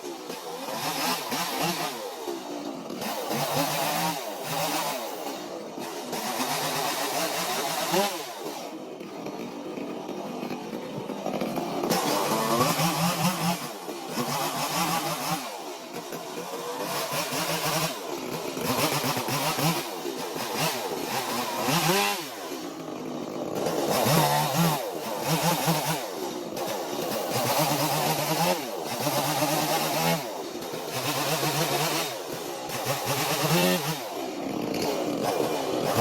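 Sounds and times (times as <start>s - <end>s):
chainsaw revving: 0.0s - 36.0s.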